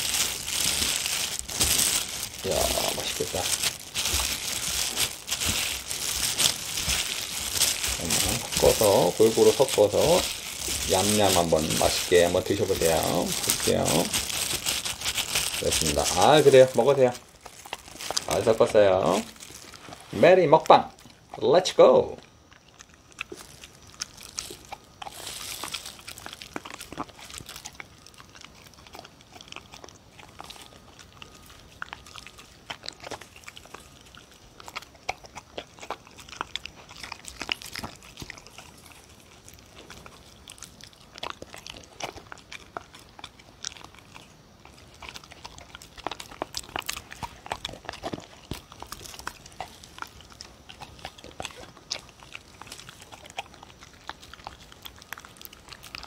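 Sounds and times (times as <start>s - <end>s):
dog chewing and lapping: 0.0s - 56.0s.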